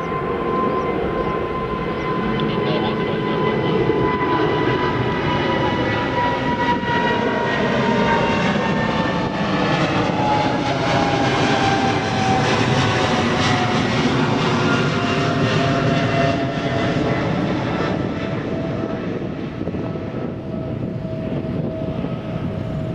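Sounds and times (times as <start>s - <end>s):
jet engine whine: 0.0s - 22.9s
jet engines roaring: 0.0s - 22.9s.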